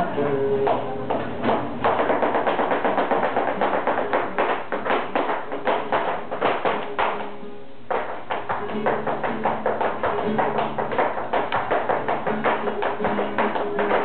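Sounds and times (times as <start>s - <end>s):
music: 0.0s - 14.0s
dancer's shoes tapping floor: 0.2s - 14.0s.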